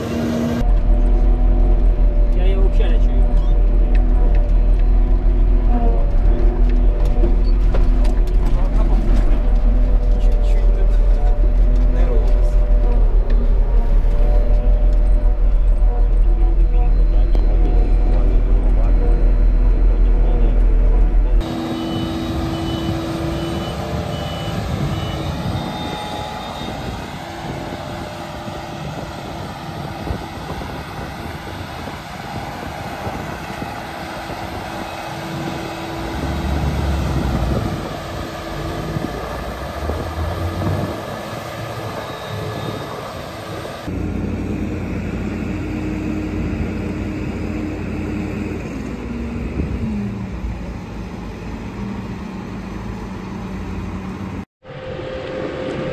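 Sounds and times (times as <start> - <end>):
diesel machinery running: 0.0 - 55.9
wheel loaders working: 0.0 - 55.9.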